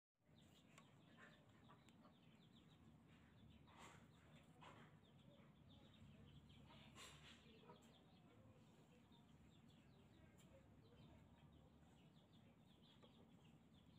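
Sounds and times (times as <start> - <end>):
small birds chirping: 0.2 - 13.9.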